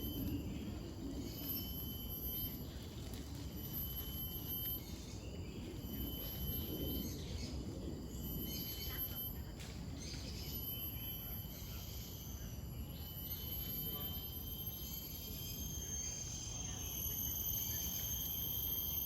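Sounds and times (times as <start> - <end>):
high insect tone: 0.0 - 19.0.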